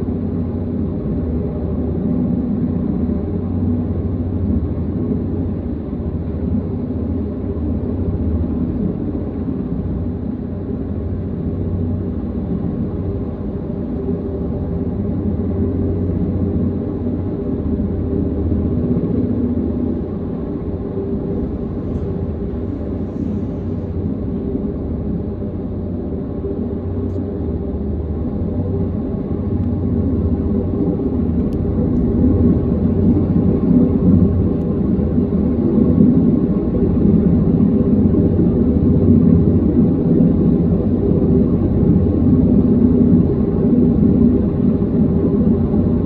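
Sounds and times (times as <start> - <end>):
helicopter hovering: 0.0 - 46.0.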